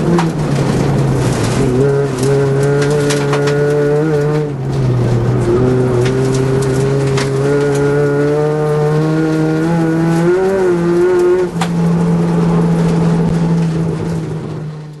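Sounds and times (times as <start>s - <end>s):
rally car engine drone: 0.0s - 15.0s.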